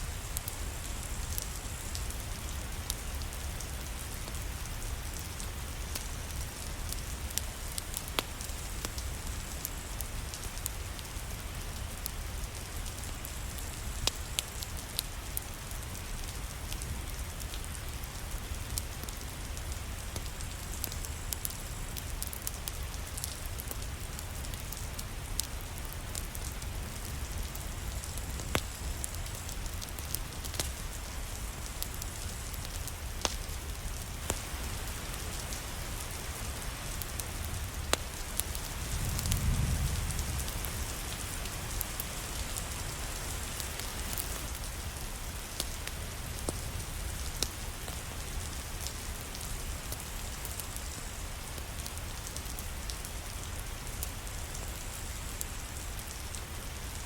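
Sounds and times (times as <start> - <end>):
steady rain: 0.0 - 57.0
wood fire crackling and popping: 0.0 - 57.0.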